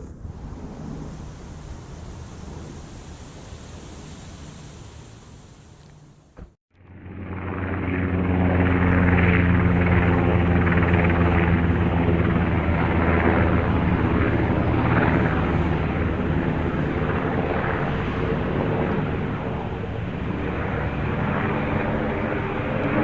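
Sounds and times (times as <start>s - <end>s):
aircraft engines droning: 0.0s - 23.0s.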